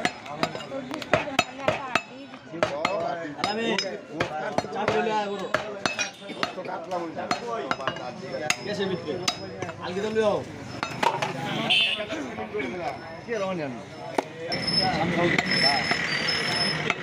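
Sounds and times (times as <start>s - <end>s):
people talking: 0.0s - 10.5s, 11.1s - 17.0s
sharp metallic knocks and clinks: 0.0s - 11.4s, 14.1s - 17.0s.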